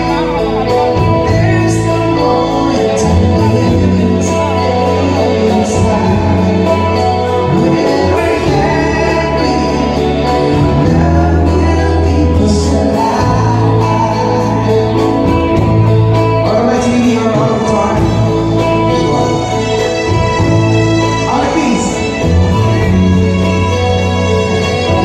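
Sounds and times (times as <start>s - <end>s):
bass line: 0.0s - 25.0s
drums: 0.0s - 25.0s
guitar: 0.0s - 25.0s
person singing: 0.0s - 25.0s.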